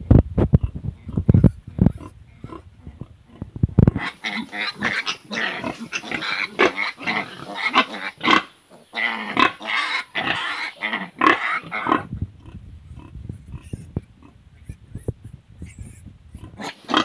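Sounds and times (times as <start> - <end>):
pigs grunting and squealing: 0.6 - 14.8, 15.6 - 17.0.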